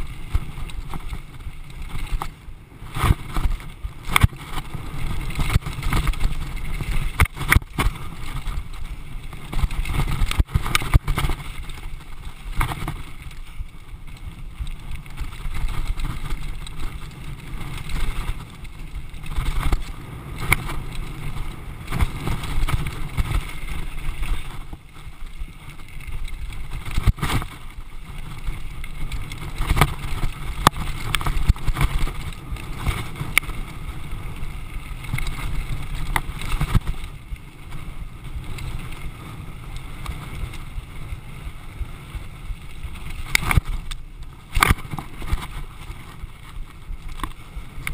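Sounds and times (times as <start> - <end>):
bike knocking and rattling: 0.0 - 47.9
bike tyres rumbling on dirt: 0.0 - 47.9
wind on camera: 0.0 - 47.9.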